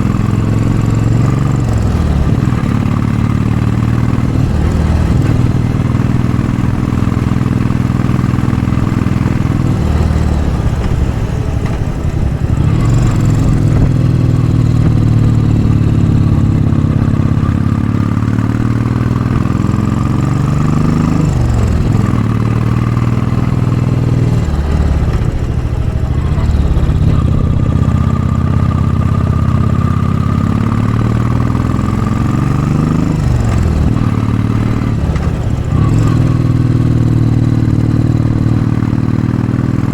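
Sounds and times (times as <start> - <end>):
motorcycle engine pulling uphill: 0.0 - 39.9.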